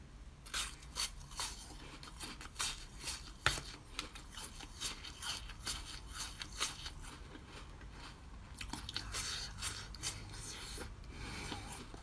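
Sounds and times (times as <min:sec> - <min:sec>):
teeth crunching thin ice: 0:00.5 - 0:10.8.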